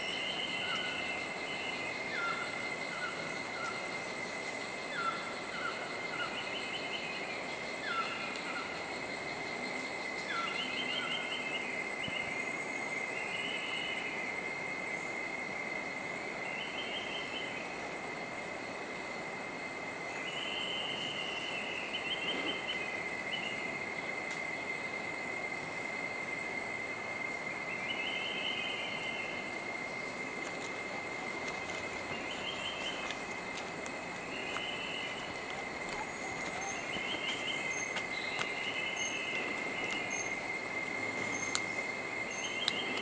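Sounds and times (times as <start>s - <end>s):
insects droning: 0.0s - 43.0s.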